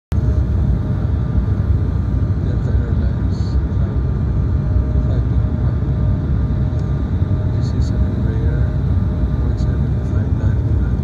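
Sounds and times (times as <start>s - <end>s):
airliner cabin engine rumble: 0.1s - 11.0s.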